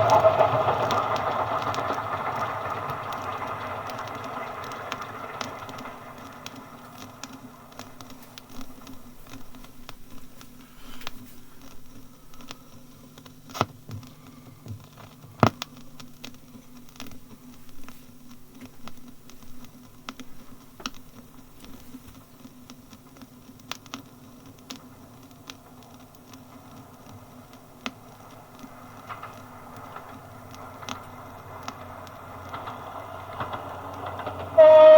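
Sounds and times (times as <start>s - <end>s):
low steady hum: 0.0s - 34.9s
record surface crackle: 0.0s - 34.9s.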